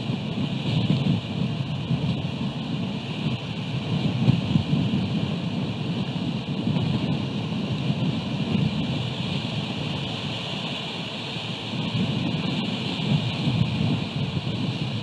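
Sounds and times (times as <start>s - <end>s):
rain hiss: 0.0s - 15.0s
wind rumbling on microphone: 0.0s - 15.0s.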